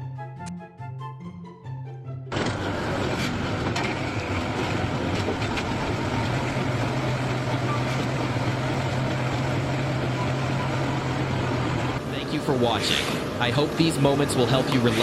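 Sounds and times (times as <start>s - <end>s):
dense mechanical noise: 2.3s - 15.0s
motor hum: 2.3s - 15.0s.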